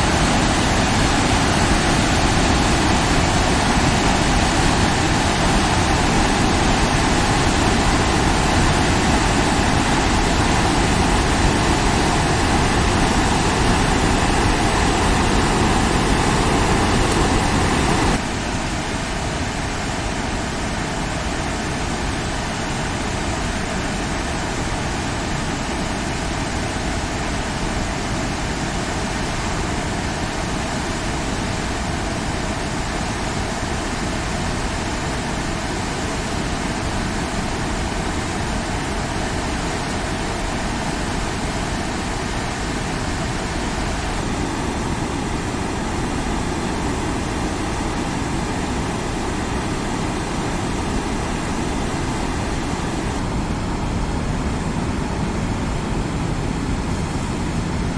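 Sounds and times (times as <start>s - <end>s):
river rushing: 0.0s - 57.9s.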